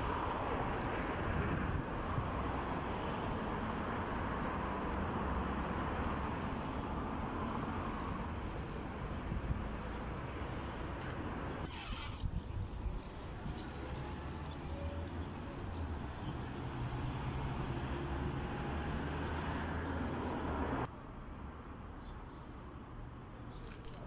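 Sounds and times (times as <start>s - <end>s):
road traffic hum: 0.0s - 24.0s.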